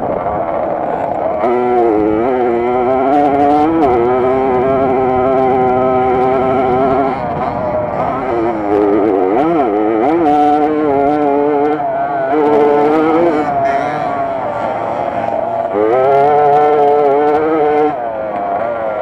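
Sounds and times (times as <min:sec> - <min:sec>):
two-stroke moped engine revving: 0:00.8 - 0:18.8.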